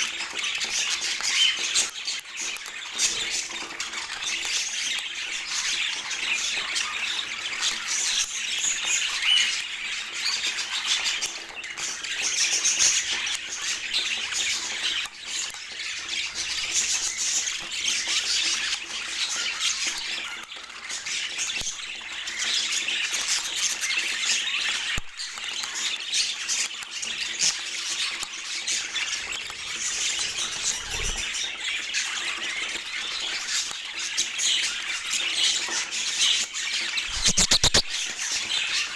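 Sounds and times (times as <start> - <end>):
budgerigars chattering and warbling: 0.0 - 25.0, 25.7 - 38.9.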